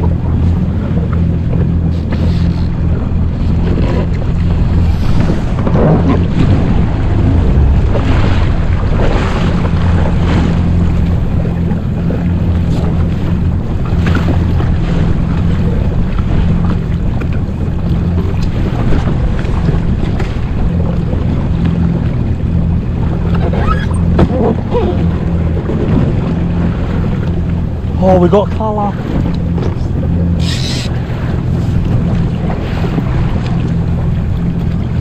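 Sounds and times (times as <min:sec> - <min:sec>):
jet ski engine running: 0:00.0 - 0:35.0
water rushing along hull: 0:00.0 - 0:35.0
wind buffeting microphone: 0:00.0 - 0:35.0.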